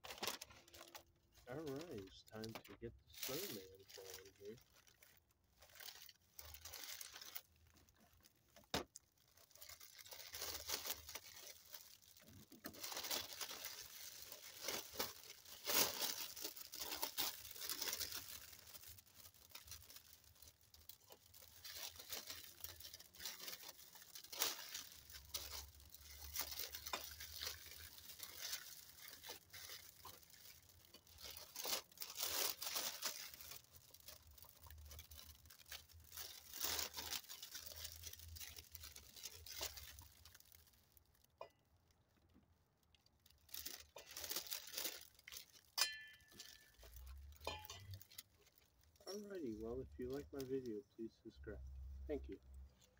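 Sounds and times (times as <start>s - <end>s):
paper shreds rustling: 0.0s - 8.4s, 9.1s - 41.0s, 43.2s - 50.8s
cellophane crinkling: 0.0s - 52.9s.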